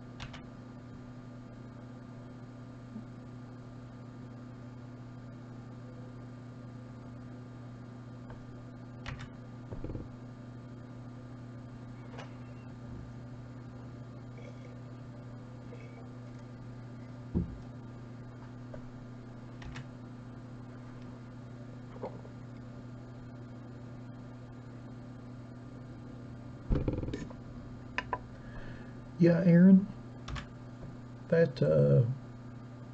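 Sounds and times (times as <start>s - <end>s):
low electrical hum: 0.0s - 32.9s.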